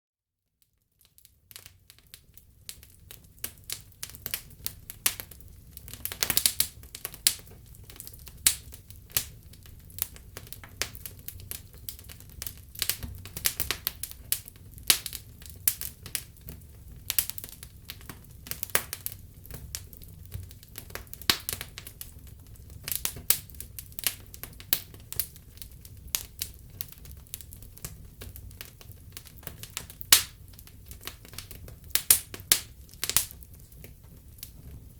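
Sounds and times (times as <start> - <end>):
wood fire crackling and popping: 0.9 - 34.9
low rumble of flames: 1.7 - 34.9.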